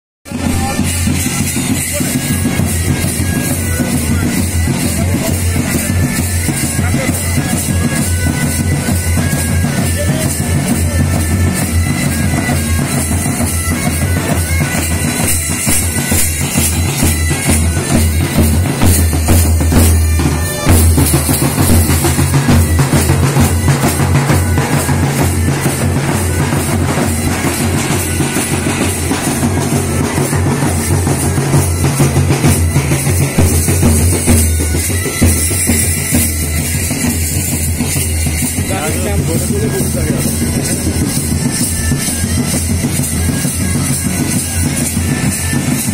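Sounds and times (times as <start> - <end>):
bagpipes: 0.3 - 45.9.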